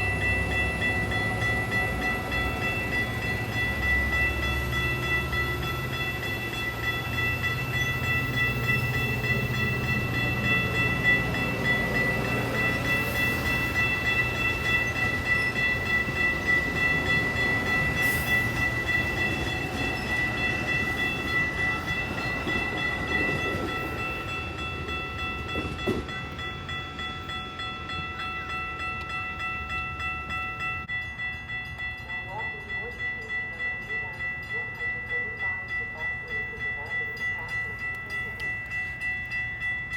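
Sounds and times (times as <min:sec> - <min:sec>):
rhythmic rail clatter: 0:00.0 - 0:39.9
steady high tones: 0:00.0 - 0:39.9
train passing close by: 0:00.0 - 0:39.9.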